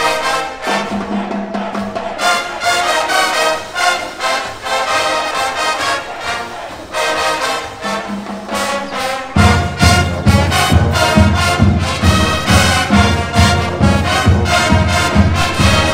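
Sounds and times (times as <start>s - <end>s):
marching band brass melody: 0.0s - 15.9s.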